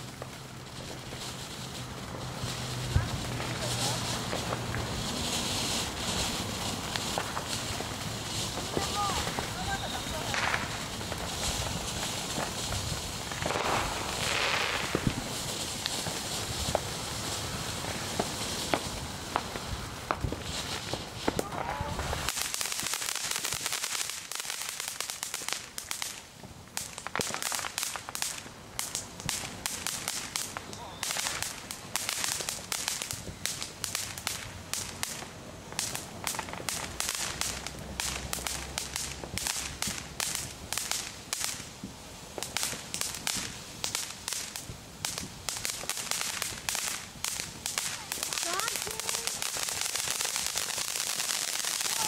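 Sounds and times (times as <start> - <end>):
firework fountain hissing: 0.0 - 52.0
rapid crackling pops: 0.0 - 52.0.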